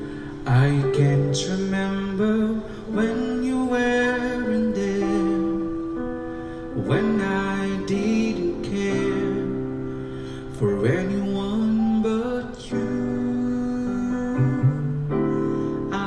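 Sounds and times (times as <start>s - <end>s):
instrumental backing track: 0.0s - 16.0s
person singing a slow ballad: 0.0s - 16.0s.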